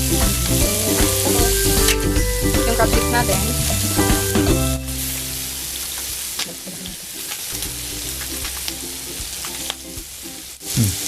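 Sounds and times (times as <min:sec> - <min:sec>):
food sizzling on grill pan: 0:00.0 - 0:11.0
light background music: 0:00.0 - 0:11.0.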